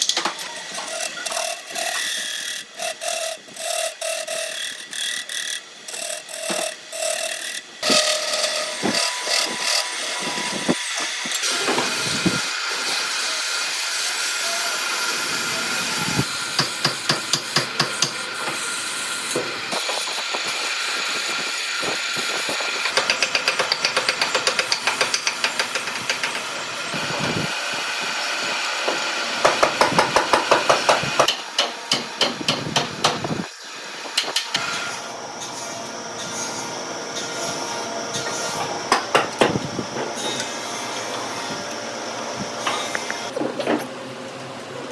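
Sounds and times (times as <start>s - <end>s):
power tool running: 0.0s - 43.4s.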